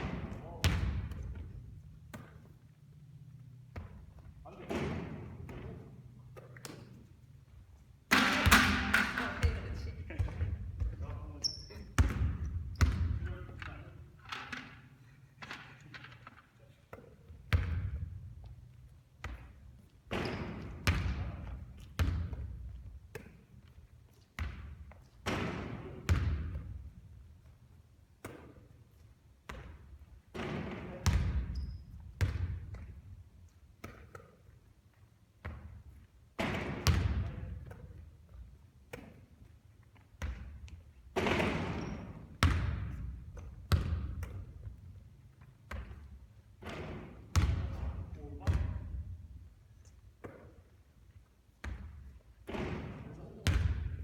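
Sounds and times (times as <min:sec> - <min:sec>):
basketball bouncing on hard court: 0:00.0 - 0:02.6, 0:03.3 - 0:07.0, 0:08.1 - 0:13.8, 0:16.9 - 0:23.8, 0:24.4 - 0:27.6, 0:28.2 - 0:28.8, 0:29.4 - 0:34.6, 0:35.4 - 0:49.2, 0:50.2 - 0:50.7, 0:51.6 - 0:54.0.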